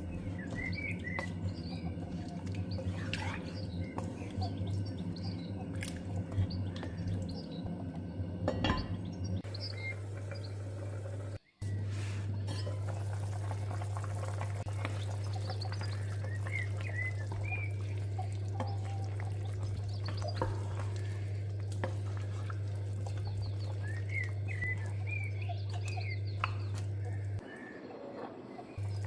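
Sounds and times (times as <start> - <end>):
steady low hum: 0.0 - 27.4.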